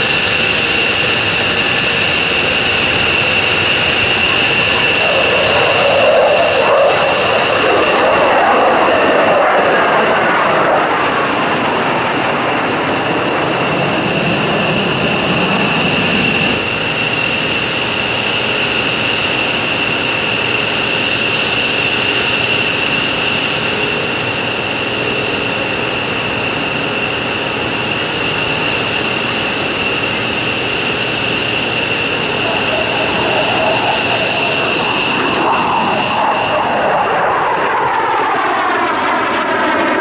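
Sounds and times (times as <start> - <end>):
high whine: 0.0 - 40.0
jet flying overhead: 0.0 - 40.0
steady jet rumble: 0.0 - 40.0.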